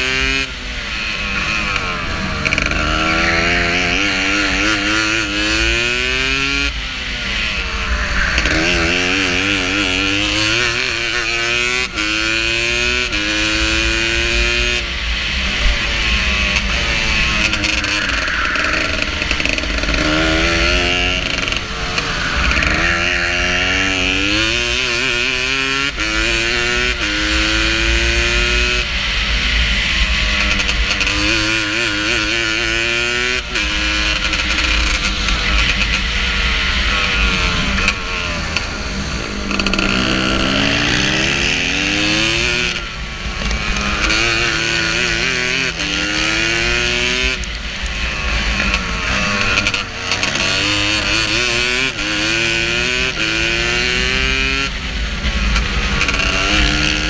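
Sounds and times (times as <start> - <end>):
go-kart engine accelerating: 0.0 - 57.0.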